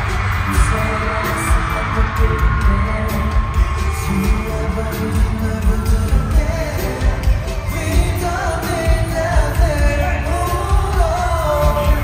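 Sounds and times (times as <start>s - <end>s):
heavy bass beat: 0.0s - 12.0s
man singing: 0.0s - 12.0s
pop music over arena speakers: 0.0s - 12.0s.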